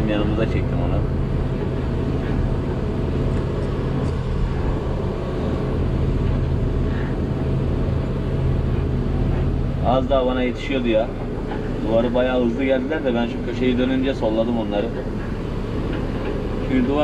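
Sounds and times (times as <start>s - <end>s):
excavator diesel engine drone: 0.0s - 17.0s.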